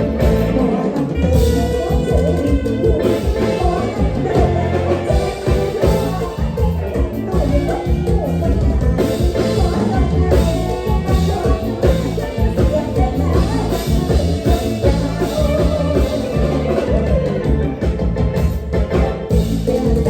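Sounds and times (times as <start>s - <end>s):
drum kit beat: 0.0s - 20.0s
electric bass: 0.0s - 20.0s
live band playing dance tune: 0.0s - 20.0s.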